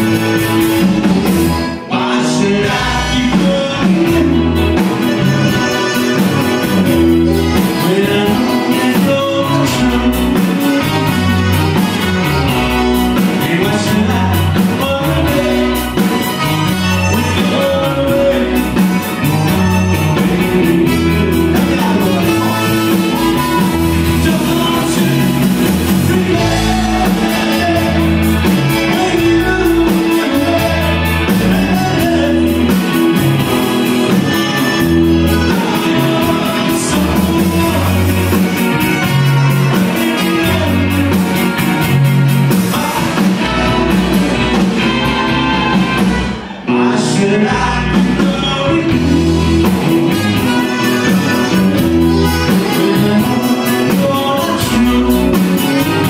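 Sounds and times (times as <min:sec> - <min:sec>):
accordion: 0:00.0 - 0:56.0
live band playing: 0:00.0 - 0:56.0.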